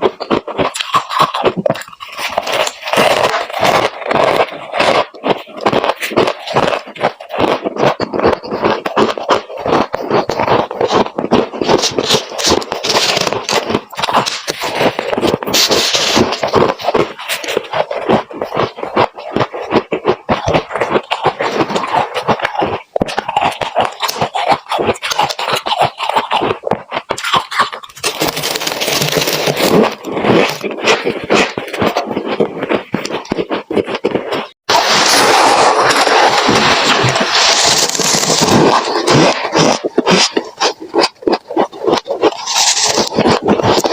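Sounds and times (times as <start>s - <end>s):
freezer frost crunching: 0.0s - 43.9s.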